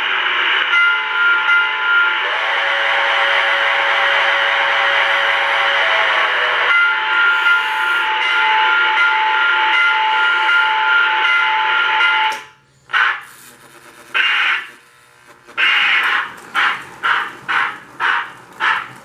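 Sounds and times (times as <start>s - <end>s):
electronic steam whistle: 0.0s - 13.3s, 14.1s - 14.8s, 15.6s - 18.9s
steam chuffing: 0.0s - 19.0s.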